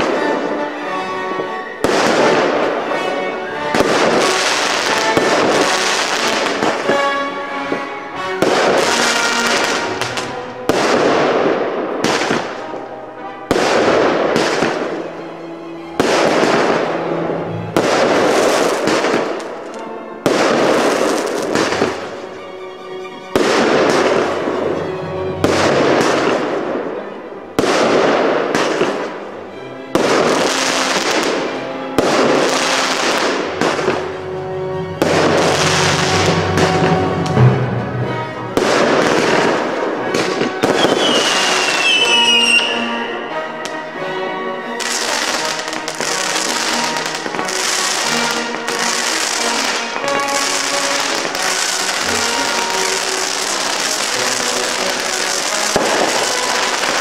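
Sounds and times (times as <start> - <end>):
background music: 0.0 - 57.0
fireworks bursting: 1.8 - 7.1, 7.7 - 12.8, 13.5 - 15.0, 16.0 - 22.3, 23.3 - 29.1, 29.9 - 42.8, 44.8 - 57.0.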